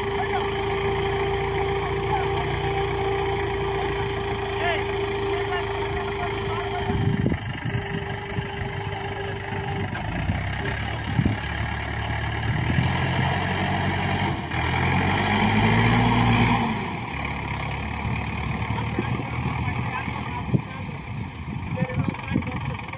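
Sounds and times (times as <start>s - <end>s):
tractor diesel engine labouring: 0.0s - 22.9s.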